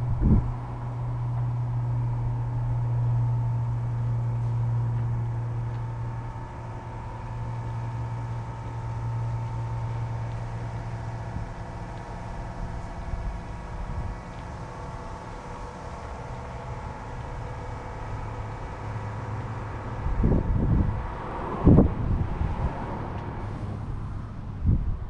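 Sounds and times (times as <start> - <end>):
faint whine: 0.0 - 25.0
tractor diesel engine running: 0.0 - 25.0.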